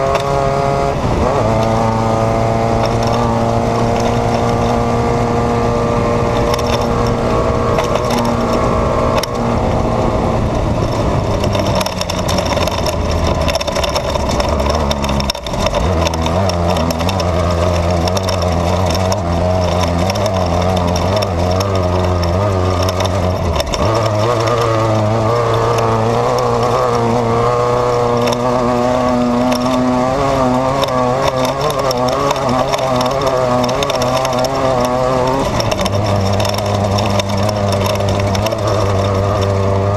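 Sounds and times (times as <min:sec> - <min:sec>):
race car engine under load: 0:00.0 - 0:39.9.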